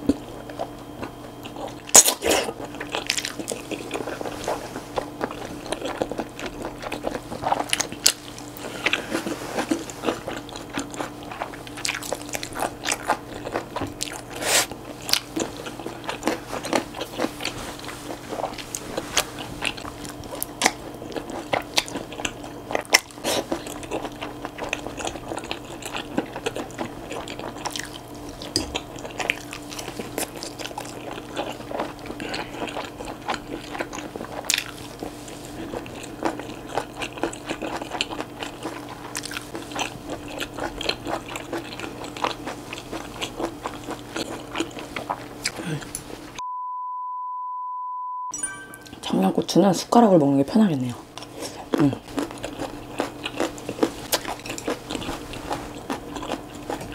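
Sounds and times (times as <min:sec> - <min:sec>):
close chewing: 0:00.0 - 0:46.2, 0:51.1 - 0:56.9.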